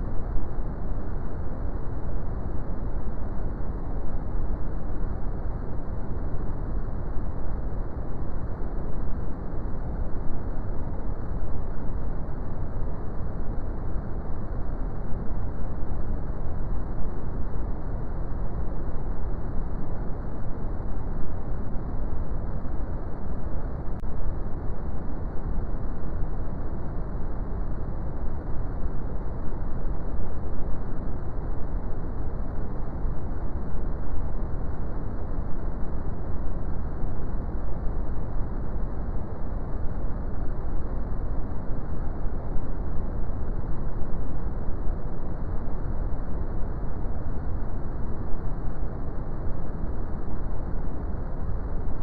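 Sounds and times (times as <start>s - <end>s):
deep rumbling brown noise: 0.0s - 52.0s.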